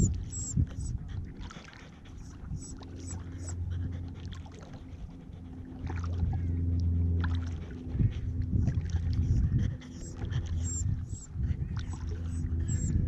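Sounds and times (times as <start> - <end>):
low steady hum: 0.0 - 13.0
paddle water sounds: 0.0 - 13.0.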